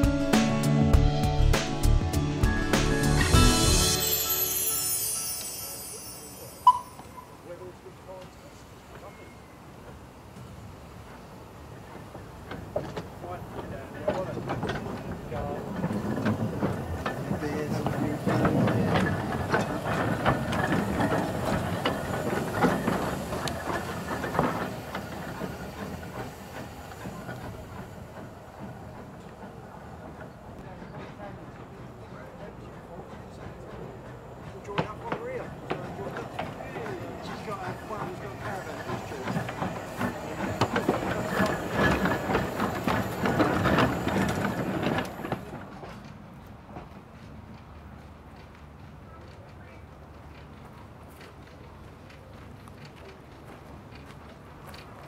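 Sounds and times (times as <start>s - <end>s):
steam locomotive passing: 0.0s - 55.0s
wheels clicking over rail joints: 9.8s - 55.0s.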